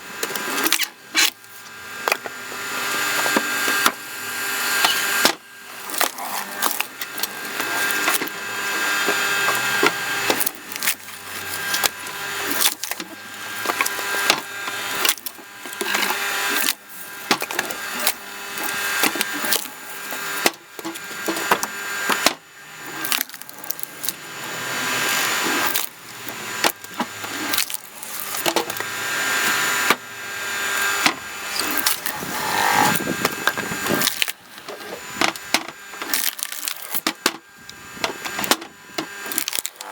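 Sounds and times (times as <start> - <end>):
log splitter motor humming: 0.0 - 39.9
wood cracking and splintering: 0.2 - 39.9.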